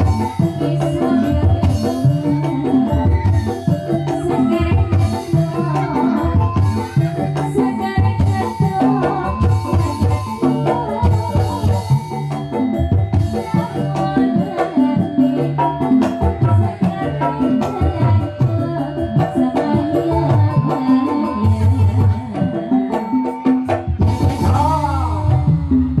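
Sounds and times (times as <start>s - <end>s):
electronic keyboard tones: 0.0s - 26.0s
hand drum beating: 0.0s - 26.0s.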